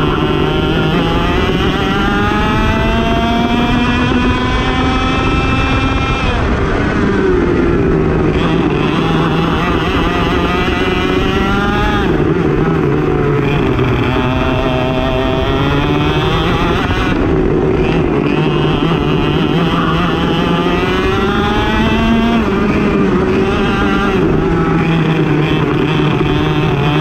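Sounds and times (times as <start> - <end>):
kart engine revving: 0.0 - 27.0.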